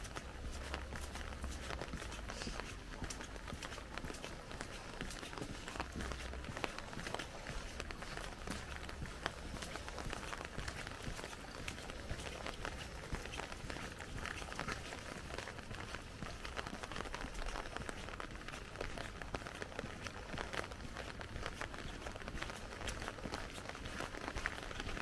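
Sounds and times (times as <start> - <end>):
rain ticking on an umbrella: 0.0 - 25.0.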